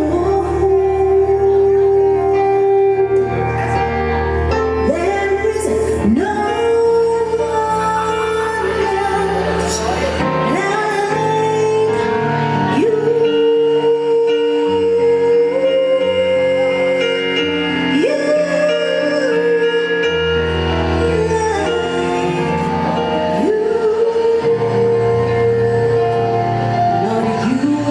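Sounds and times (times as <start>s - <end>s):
bass line: 0.0s - 27.9s
sustained chords: 0.0s - 27.9s
woman singing: 0.0s - 27.9s.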